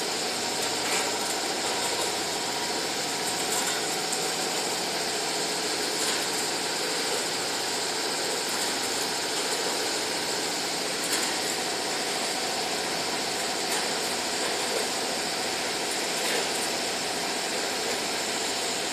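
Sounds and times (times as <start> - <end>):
packaging machinery running: 0.0 - 18.9.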